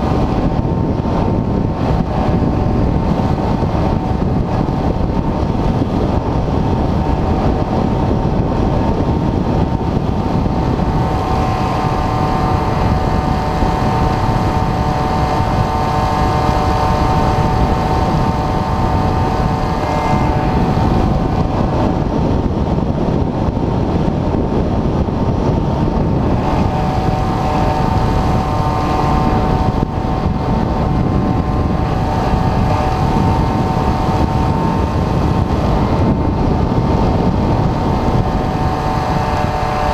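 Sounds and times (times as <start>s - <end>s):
airflow rushing over camera: 0.0s - 39.9s
electric motor and propeller whine: 0.0s - 39.9s.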